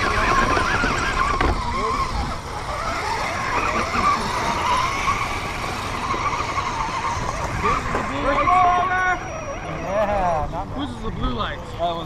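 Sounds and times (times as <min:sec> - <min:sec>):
electric motor and gear whine: 0:00.0 - 0:12.0
tyres rumbling on dirt: 0:00.0 - 0:12.0.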